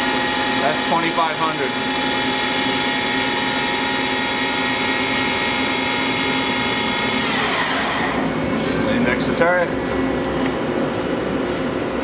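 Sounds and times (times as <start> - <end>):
machine spindle whining: 0.0 - 11.8.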